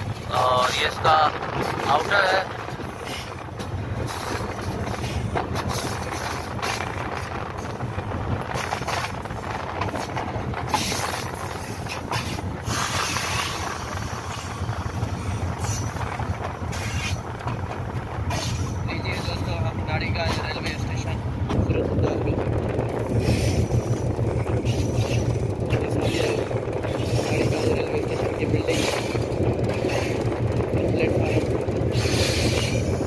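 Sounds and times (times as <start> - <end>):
diesel locomotive rumble: 0.0 - 33.0
train wheels knocking and clattering: 0.0 - 33.0.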